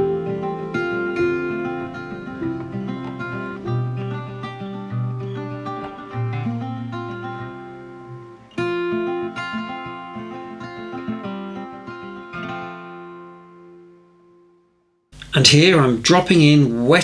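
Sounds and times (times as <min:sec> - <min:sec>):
acoustic guitar picking: 0:00.0 - 0:14.3, 0:15.2 - 0:17.0.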